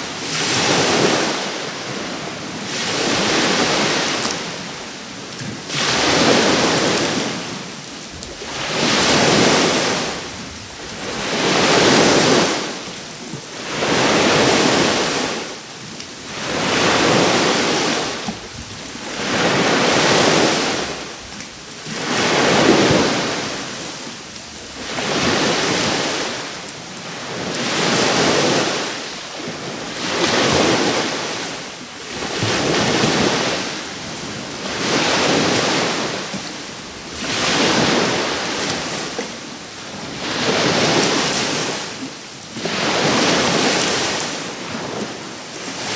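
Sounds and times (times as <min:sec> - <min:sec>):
small waves breaking on beach: 0:00.0 - 0:45.9.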